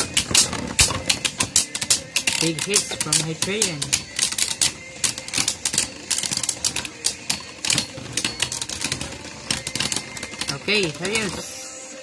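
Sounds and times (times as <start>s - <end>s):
spinning tops clashing: 0.0s - 11.5s.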